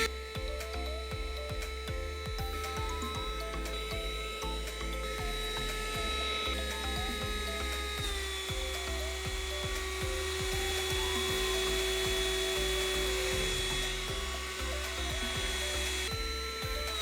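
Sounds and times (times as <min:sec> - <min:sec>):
background music with beat: 0:00.0 - 0:17.0
handheld vacuum cleaner whine: 0:00.0 - 0:17.0.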